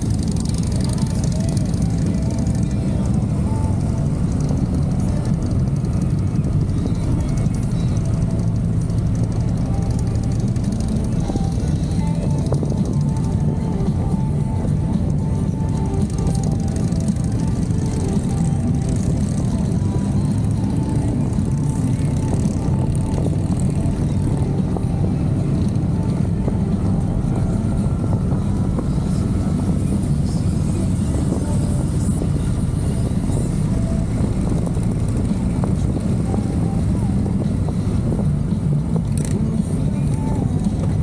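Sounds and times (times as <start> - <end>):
motorcycle engines rumbling: 0.0 - 41.0.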